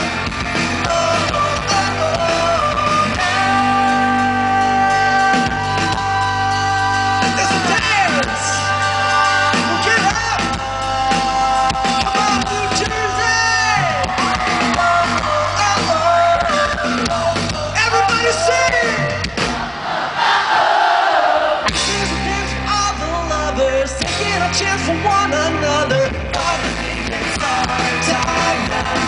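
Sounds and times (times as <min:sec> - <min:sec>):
man singing lead vocals: 0:00.0 - 0:19.4, 0:21.6 - 0:29.0
live rock band playing: 0:00.0 - 0:19.8, 0:21.7 - 0:29.0.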